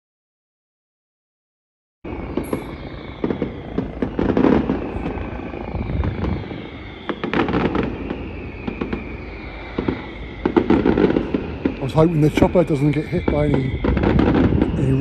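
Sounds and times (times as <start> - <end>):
firecracker barrage: 2.1 - 15.0
helicopter whine: 2.1 - 15.0.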